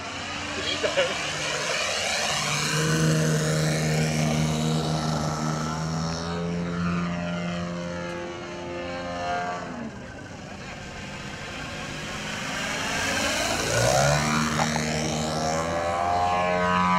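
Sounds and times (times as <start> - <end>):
model plane engine: 0.0 - 16.9.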